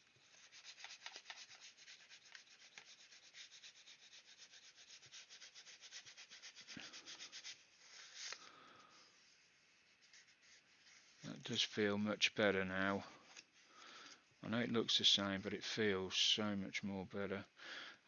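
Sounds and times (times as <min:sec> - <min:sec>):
hand sanding plastic: 0:00.0 - 0:16.4
soft scrape: 0:00.0 - 0:16.4.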